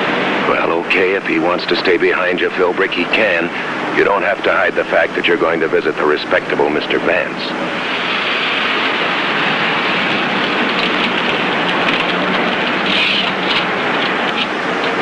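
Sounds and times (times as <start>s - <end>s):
car driving rush: 0.0s - 15.0s.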